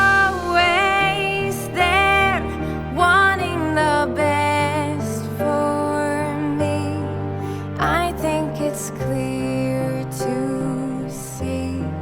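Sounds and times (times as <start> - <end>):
slow gentle song: 0.0 - 12.0.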